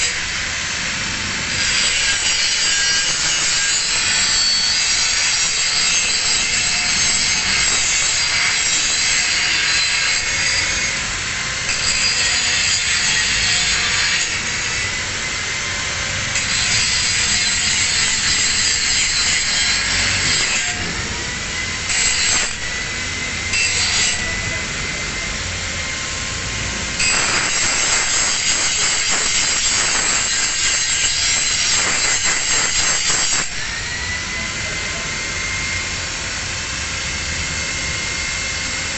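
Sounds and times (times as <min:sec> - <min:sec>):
angle grinder grinding steel: 0:00.0 - 0:38.9.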